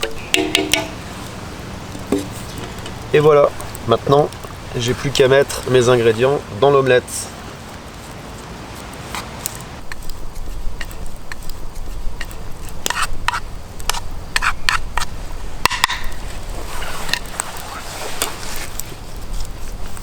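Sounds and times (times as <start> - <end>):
omelette crackling in a pan: 0.0 - 20.0.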